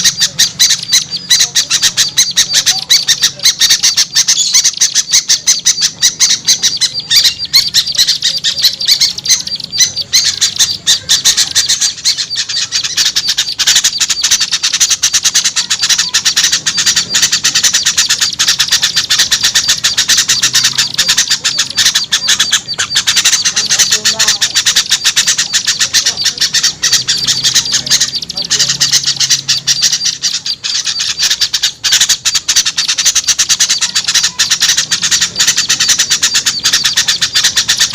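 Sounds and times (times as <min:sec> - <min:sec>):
many small songbirds chattering: 0:00.0 - 0:37.9.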